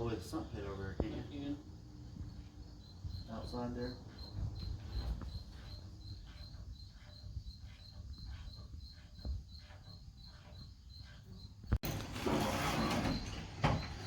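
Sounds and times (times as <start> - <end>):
cricket chirping: 0.0 - 11.8.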